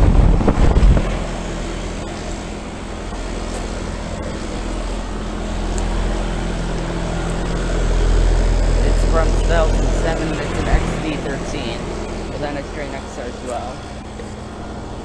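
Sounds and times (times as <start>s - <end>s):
air conditioner hum: 0.0s - 15.0s
wind rumble on microphone: 0.0s - 15.0s.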